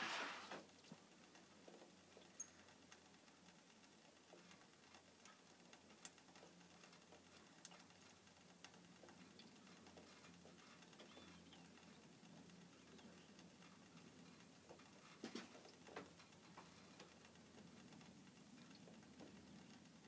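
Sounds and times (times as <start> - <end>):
small sharp ticks: 0.6 - 20.0.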